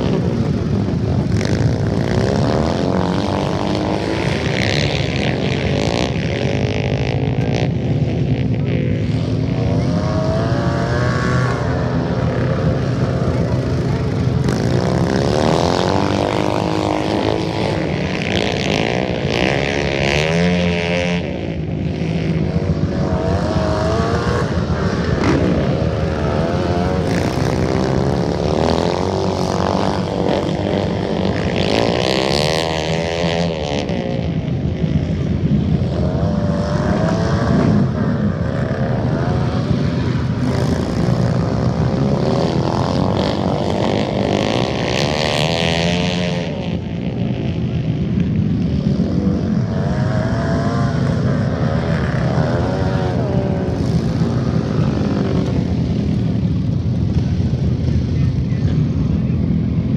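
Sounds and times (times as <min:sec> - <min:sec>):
small racing engines revving: 0:00.0 - 0:59.9.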